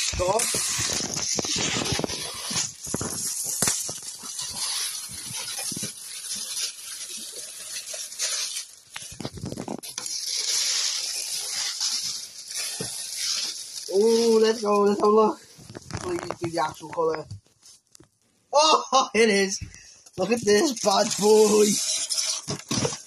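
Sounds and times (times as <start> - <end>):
plastic wrapping crinkling: 0.0 - 18.2, 20.1 - 23.0.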